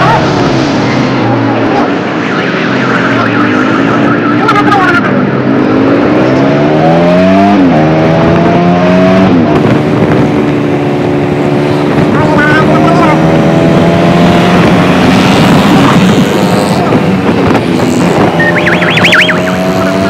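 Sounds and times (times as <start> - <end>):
road and wind noise: 0.0 - 20.0
motorcycle engine accelerating: 0.6 - 20.0.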